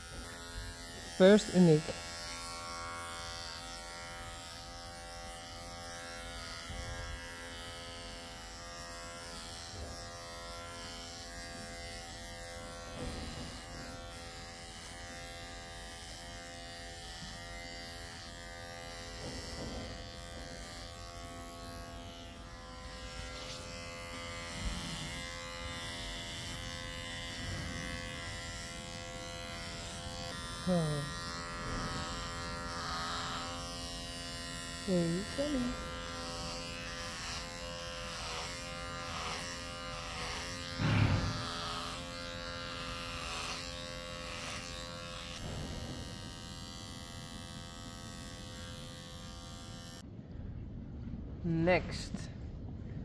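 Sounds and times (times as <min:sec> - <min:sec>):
electric clippers buzzing: 0:00.0 - 0:50.0.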